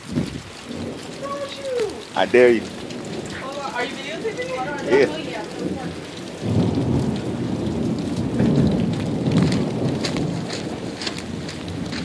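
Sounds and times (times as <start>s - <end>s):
rain falling: 0.0s - 12.0s
rolling thunder rumble: 0.0s - 12.0s.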